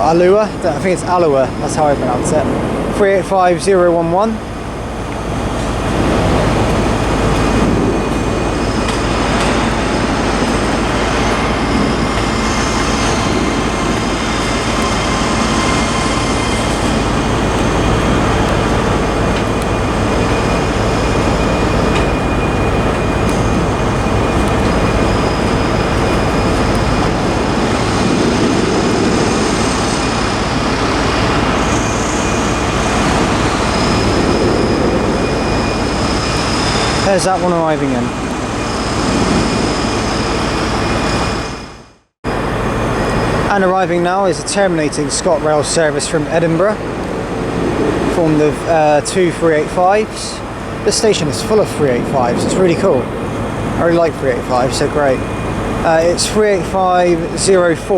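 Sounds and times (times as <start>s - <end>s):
electric train hum: 0.0s - 57.9s
train wheels rumbling on rails: 0.0s - 57.9s.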